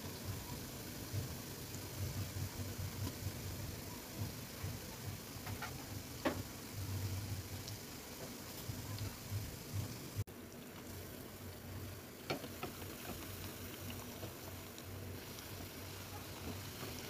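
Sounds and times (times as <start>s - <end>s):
crackers deep-frying in hot oil: 0.0s - 17.0s.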